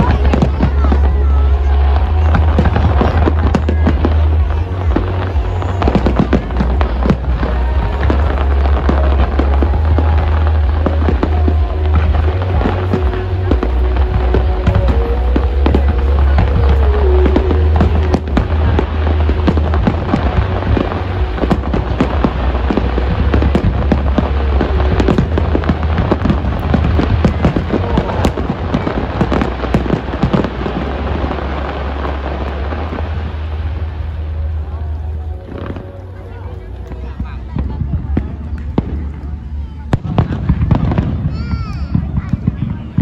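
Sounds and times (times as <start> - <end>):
fireworks bangs and crackles: 0.0 - 43.0
low rumble of booms: 0.0 - 43.0.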